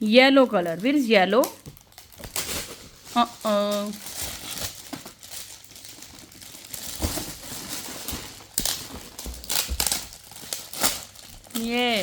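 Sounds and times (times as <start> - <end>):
plastic packaging rustling: 0.4 - 12.0.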